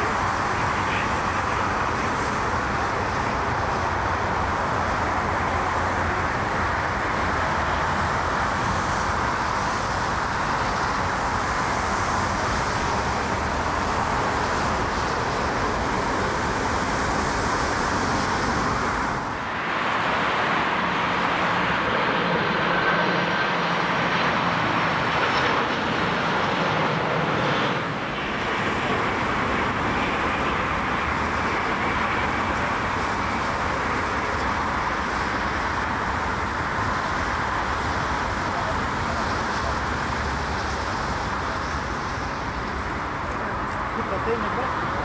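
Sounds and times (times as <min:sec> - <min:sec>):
jet engines rushing: 0:00.0 - 0:45.0.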